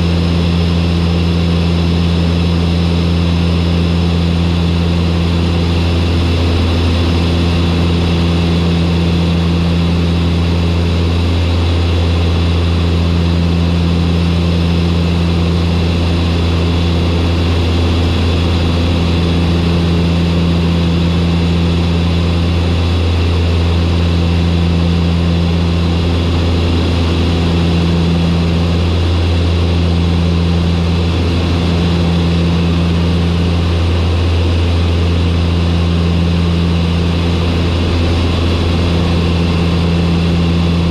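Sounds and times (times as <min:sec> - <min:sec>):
turboprop engines droning: 0:00.0 - 0:40.9.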